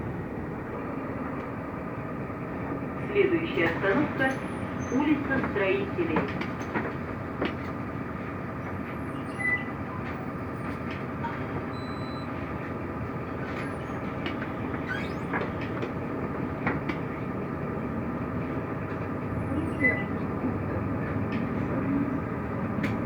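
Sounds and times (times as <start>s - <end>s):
bus engine and road noise: 0.0s - 23.0s.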